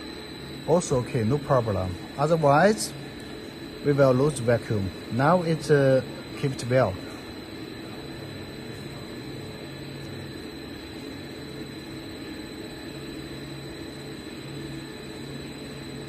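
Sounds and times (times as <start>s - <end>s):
mixer motor humming: 0.0s - 16.0s
thin high whine: 0.0s - 16.0s.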